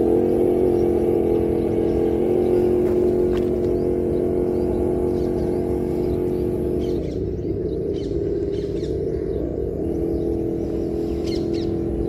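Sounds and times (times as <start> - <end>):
faint bird chirps: 0.1 - 12.0.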